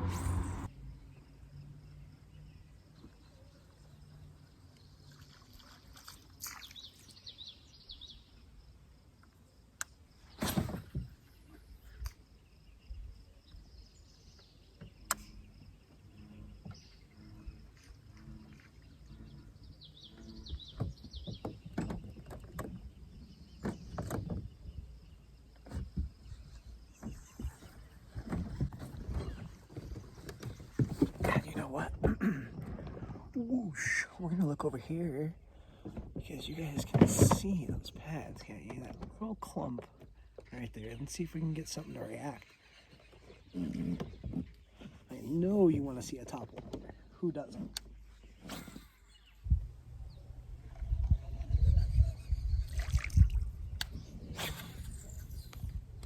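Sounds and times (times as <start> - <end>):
birds chirping: 0.0 - 9.1, 9.7 - 56.0.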